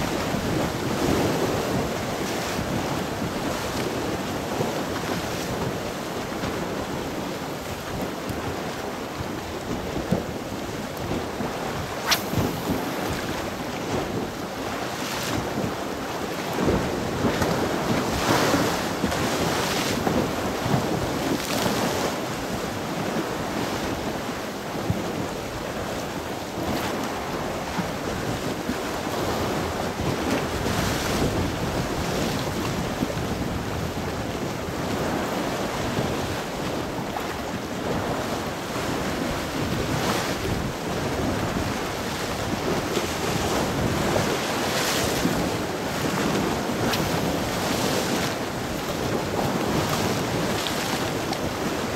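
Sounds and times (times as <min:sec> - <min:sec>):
sea waves washing in: 0:00.0 - 0:24.5, 0:28.9 - 0:51.9
wind blowing across microphone: 0:00.0 - 0:51.9.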